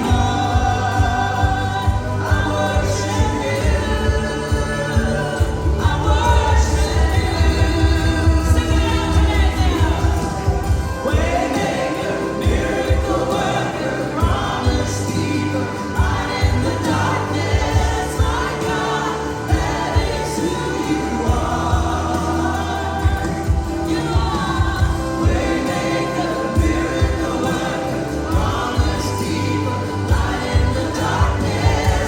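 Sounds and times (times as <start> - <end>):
band with bass and drums: 0.0 - 32.0
group singing worship song: 0.0 - 32.0.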